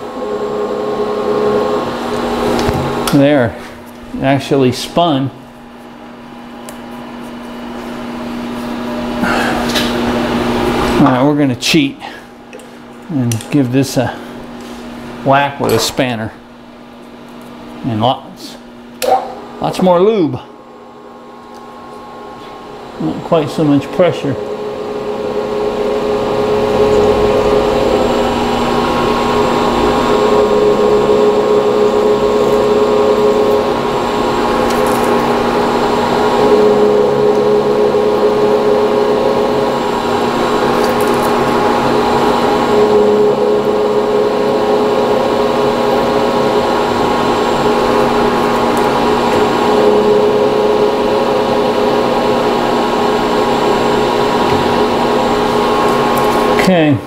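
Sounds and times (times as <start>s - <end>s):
milling machine whine: 0.0s - 11.6s, 18.7s - 57.0s.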